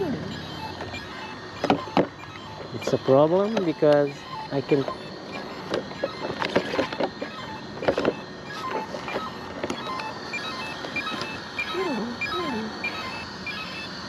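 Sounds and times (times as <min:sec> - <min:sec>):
toy car electric motor whirring: 0:00.0 - 0:14.0.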